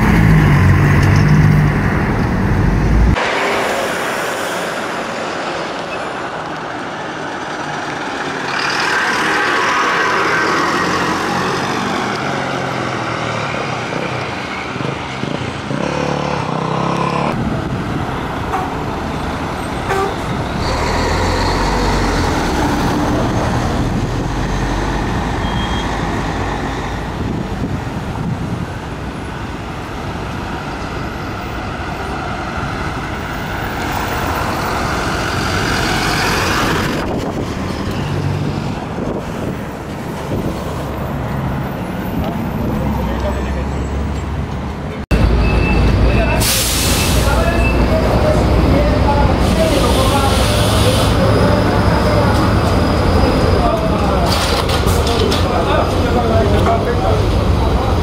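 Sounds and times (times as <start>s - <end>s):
bus diesel engines running: 0.0s - 58.0s
road noise: 0.0s - 58.0s.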